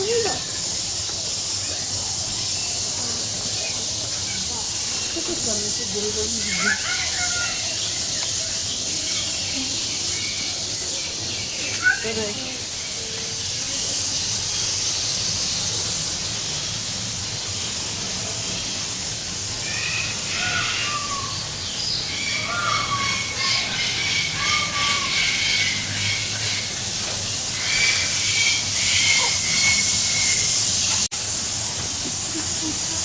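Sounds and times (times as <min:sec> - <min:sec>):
birds chirping and whistling: 0:00.0 - 0:17.8, 0:18.5 - 0:31.1
steady high hiss: 0:00.0 - 0:33.0.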